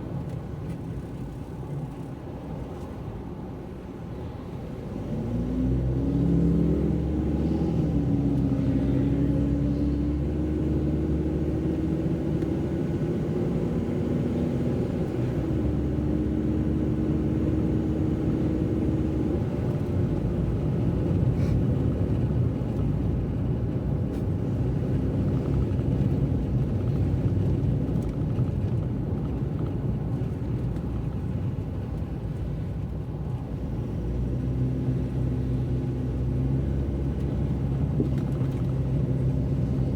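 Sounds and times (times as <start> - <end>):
car engine hum: 0.0 - 39.9
tyres on wet road: 0.0 - 39.9.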